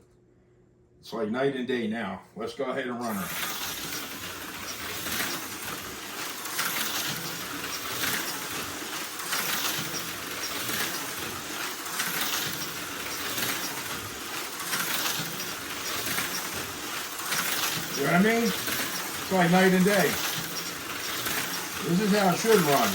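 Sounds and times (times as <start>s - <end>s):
slot car motor whirring: 3.0s - 22.9s
slot car rattling: 3.0s - 22.9s.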